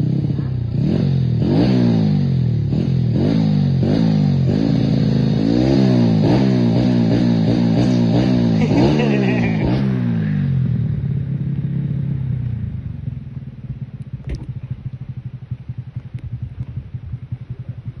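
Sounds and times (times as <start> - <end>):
motorcycle engine revving and idling: 0.0 - 18.0.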